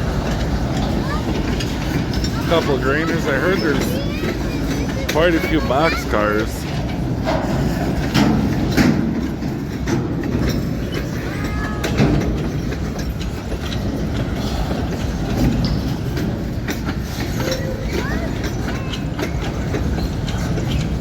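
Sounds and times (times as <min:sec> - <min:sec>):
train cars clacking over track: 0:00.0 - 0:21.0
train wheels rumbling on rails: 0:00.0 - 0:21.0.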